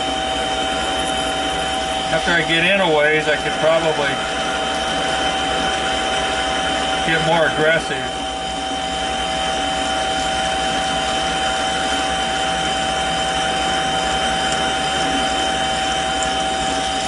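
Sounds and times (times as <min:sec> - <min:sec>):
lathe whining: 0:00.0 - 0:17.0.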